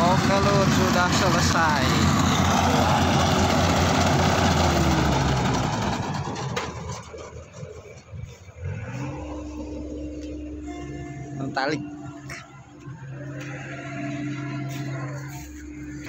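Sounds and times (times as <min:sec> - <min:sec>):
combine harvester engine and threshing: 0:00.0 - 0:16.0
steady engine rising in pitch: 0:00.0 - 0:16.0.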